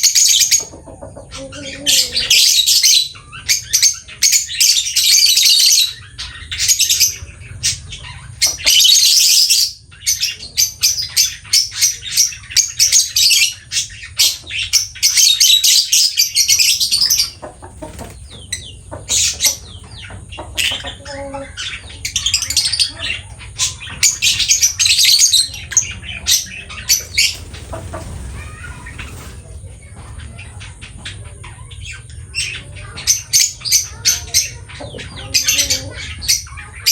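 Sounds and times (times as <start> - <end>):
lovebird chirping and chattering: 0.0 - 36.9.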